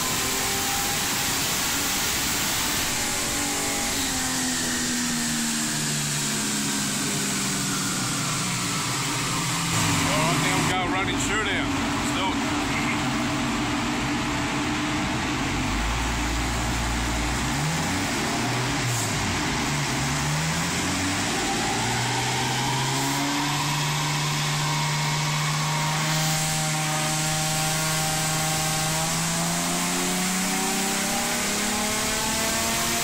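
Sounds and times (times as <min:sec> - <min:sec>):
engine revving under load: 0:00.0 - 0:33.0.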